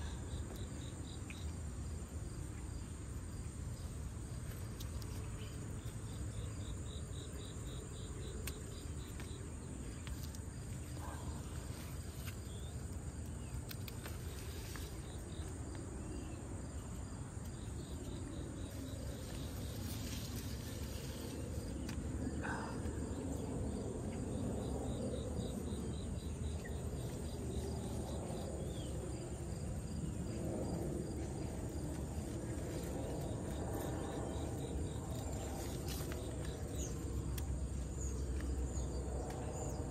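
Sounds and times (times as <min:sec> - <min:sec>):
insects chirring: 0:00.0 - 0:39.9
leaves and vines rustling: 0:00.5 - 0:23.8, 0:25.4 - 0:39.9.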